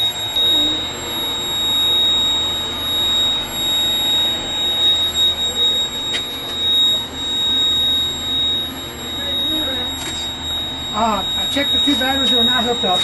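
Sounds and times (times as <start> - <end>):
high-pitched alarm buzzing: 0.0 - 13.0.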